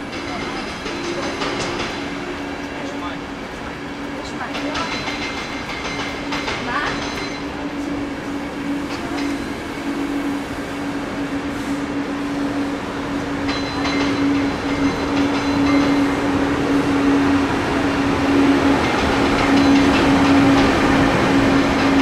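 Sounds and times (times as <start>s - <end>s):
electric train hum: 0.0s - 22.0s
rail and wheel noise: 0.0s - 22.0s.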